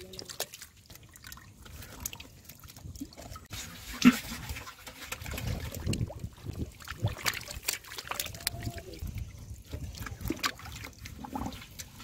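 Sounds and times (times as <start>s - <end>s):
water trickling in pool: 0.0s - 12.0s.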